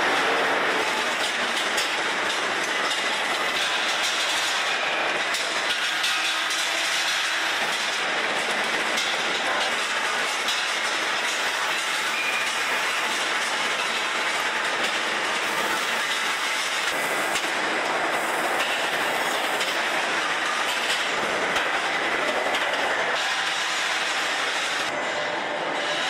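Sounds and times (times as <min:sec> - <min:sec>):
factory machinery clattering: 0:00.0 - 0:26.0.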